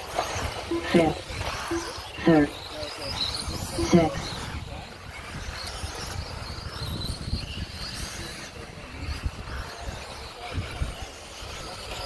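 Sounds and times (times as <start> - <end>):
constant low rumble: 0.0 - 12.0
high whine of toy car motors: 0.0 - 12.0.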